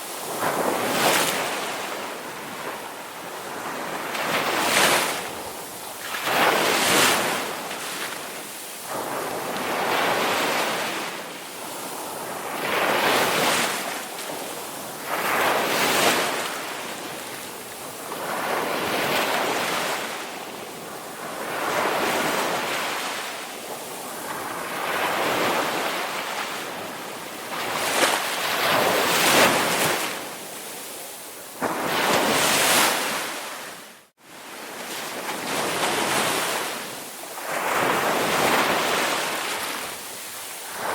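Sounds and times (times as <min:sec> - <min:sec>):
ocean waves breaking ashore: 0:00.0 - 0:40.9.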